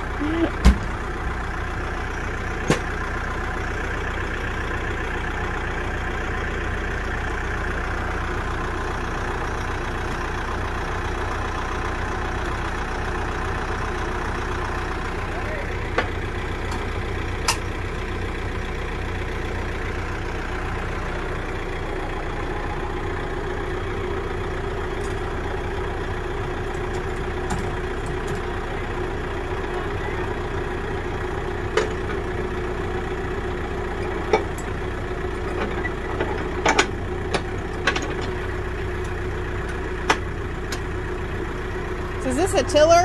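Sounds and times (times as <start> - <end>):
tractor diesel engine idling: 0.0 - 43.0.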